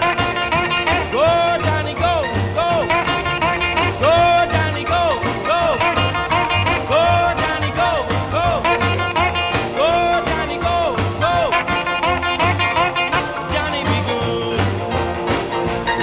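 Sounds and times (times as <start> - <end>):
upbeat tune with bass beat: 0.0 - 16.0.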